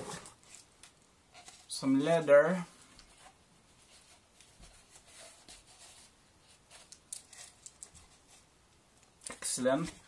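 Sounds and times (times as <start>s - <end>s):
parcel rustling and handling: 0.0s - 10.0s.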